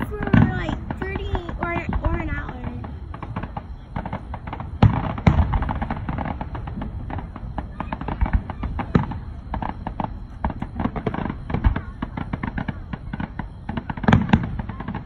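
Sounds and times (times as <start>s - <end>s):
fireworks booms: 0.0s - 15.0s
fireworks crackling and popping: 0.0s - 15.0s.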